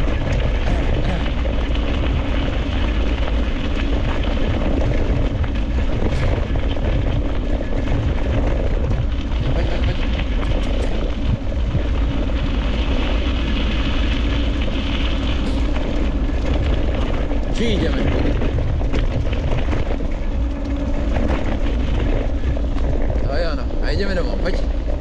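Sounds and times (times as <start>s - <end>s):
wheels rolling on gravel: 0.0s - 25.0s
wind buffeting microphone: 0.0s - 25.0s.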